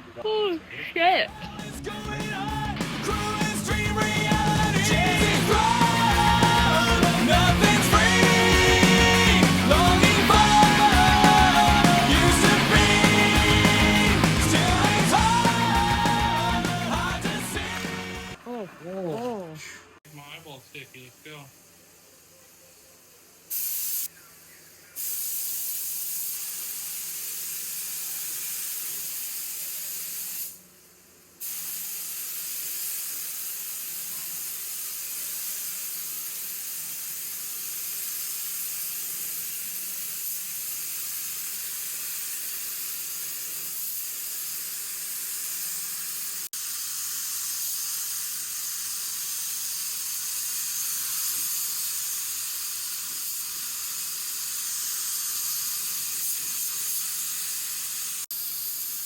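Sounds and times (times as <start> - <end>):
paint spray gun hissing: 1.5 - 18.4, 20.1 - 59.0.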